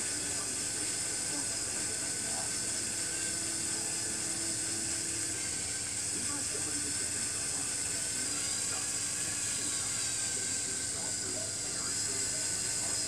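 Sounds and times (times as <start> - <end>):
electric motors whirring through gears: 0.0 - 13.0.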